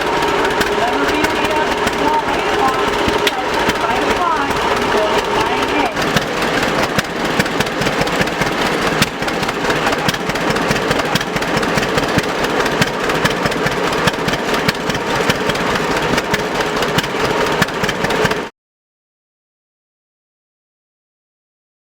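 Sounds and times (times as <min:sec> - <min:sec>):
two-cylinder tractor engine running: 0:00.0 - 0:18.5.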